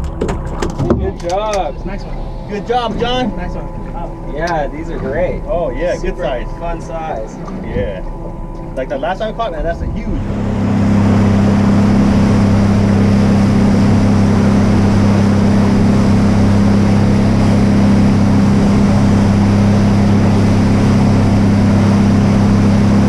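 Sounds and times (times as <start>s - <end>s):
outboard motor drone: 0.0s - 23.0s
water rushing under hull: 0.0s - 23.0s.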